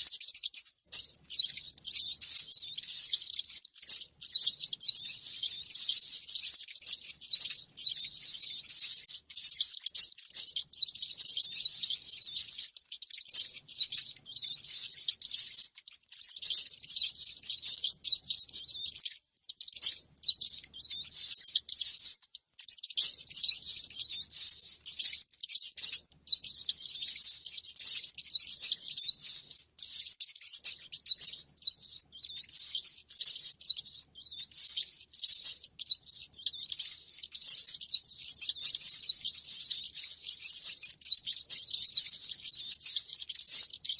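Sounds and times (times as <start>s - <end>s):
rats squeaking and chittering: 0.0s - 43.9s.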